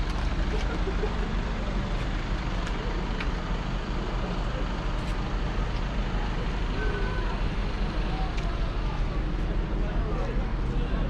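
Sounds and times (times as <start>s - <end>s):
diesel tractor engines idling: 0.0s - 11.0s.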